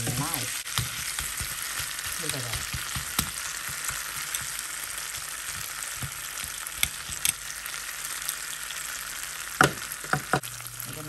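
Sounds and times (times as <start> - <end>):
meat sizzling in grill pan: 0.0 - 11.0.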